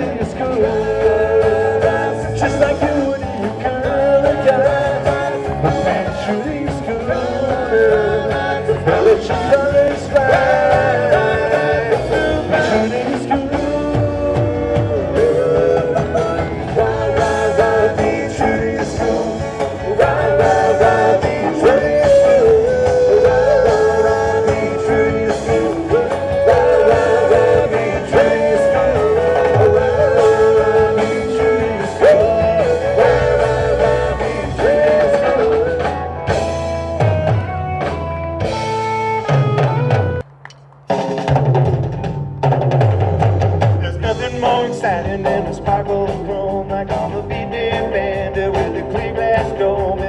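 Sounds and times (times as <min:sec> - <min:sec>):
rock and roll band playing: 0:00.0 - 0:50.0.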